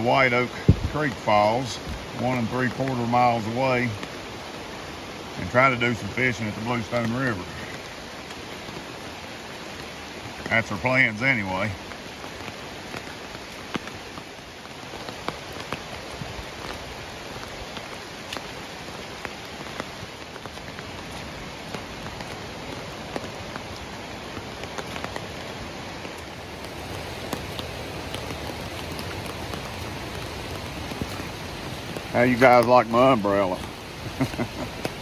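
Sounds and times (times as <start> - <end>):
steady rain: 0.0 - 35.0
raindrops tapping on umbrella: 0.1 - 4.6, 5.3 - 35.0.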